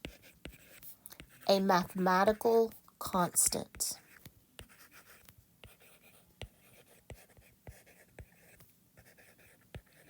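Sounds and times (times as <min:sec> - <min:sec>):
pen scratching on paper: 0:00.0 - 0:02.6, 0:03.2 - 0:10.0.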